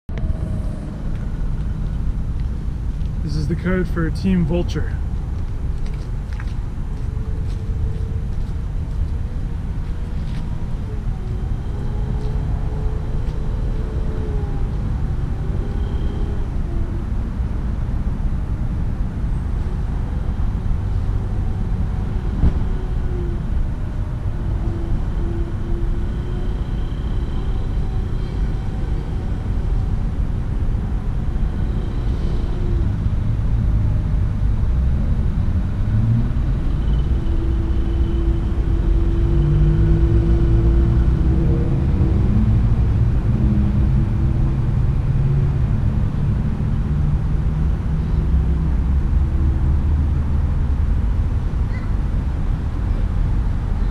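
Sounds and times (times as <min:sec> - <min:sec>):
faint engine hums: 0:00.1 - 0:53.9
steady low outdoor rumble: 0:00.1 - 0:53.9.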